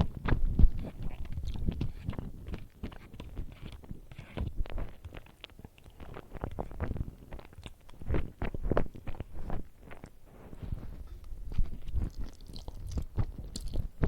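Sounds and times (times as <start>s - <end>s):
mouth smacks and clicks: 0.0s - 10.2s, 10.9s - 14.0s
person chewing: 0.2s - 14.0s.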